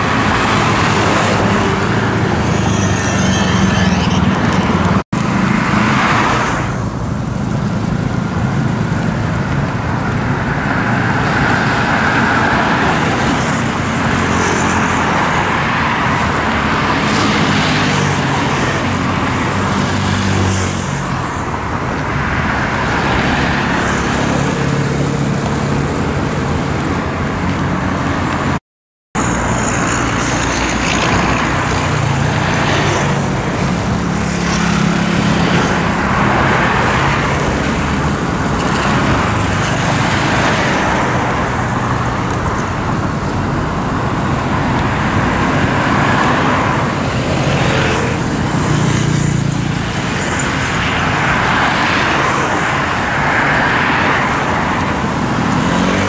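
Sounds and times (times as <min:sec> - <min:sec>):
cars and trucks passing: 0:00.0 - 0:28.6, 0:29.2 - 0:56.0
motorcycle and scooter engines: 0:00.0 - 0:28.6, 0:29.2 - 0:56.0
tyre noise on road: 0:00.0 - 0:28.6, 0:29.2 - 0:56.0.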